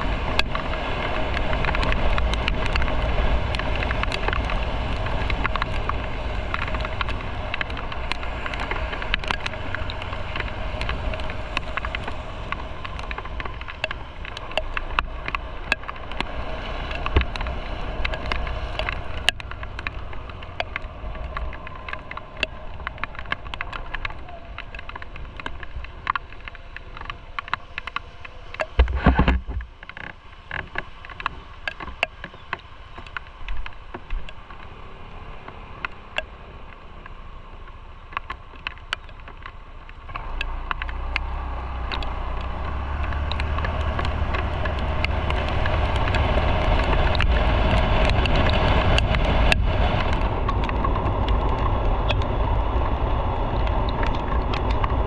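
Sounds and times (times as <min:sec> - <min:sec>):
small ticks: 0:00.0 - 0:34.7, 0:35.4 - 0:55.0
wind rumble on microphone: 0:00.0 - 0:55.0.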